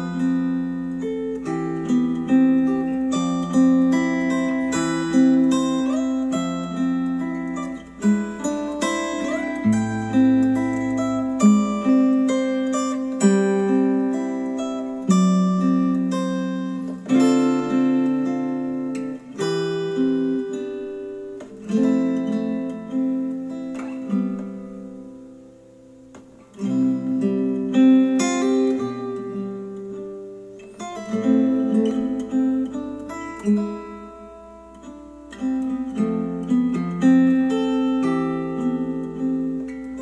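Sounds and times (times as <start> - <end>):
acoustic guitar chords: 0.0 - 40.0.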